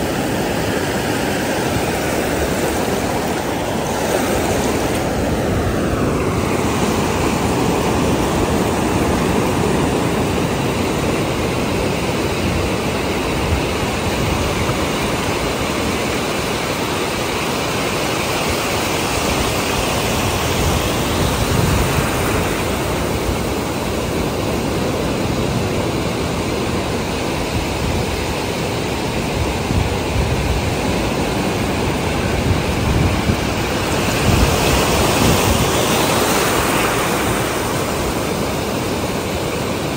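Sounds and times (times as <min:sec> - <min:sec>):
waves washing on a sandy beach: 0:00.0 - 0:39.9.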